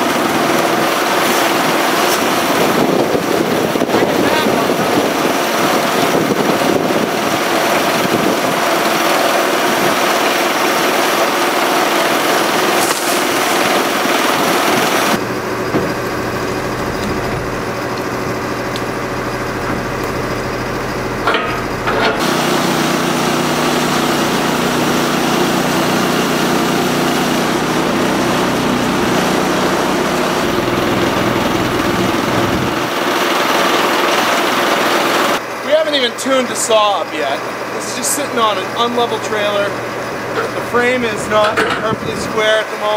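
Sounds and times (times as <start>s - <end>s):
small gasoline engine running: 0.0s - 42.9s.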